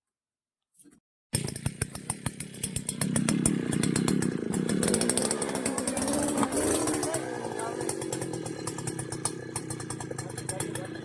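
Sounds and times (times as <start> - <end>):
sharp clicks and rattles: 1.4 - 11.0
small engine power tool running: 1.4 - 11.0.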